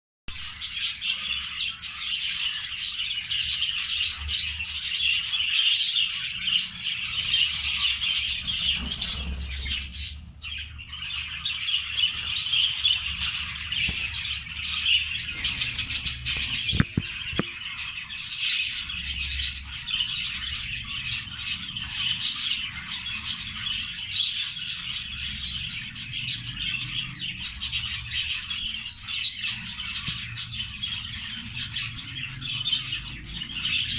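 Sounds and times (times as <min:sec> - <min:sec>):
budgerigars chattering and squawking: 0:00.4 - 0:33.9.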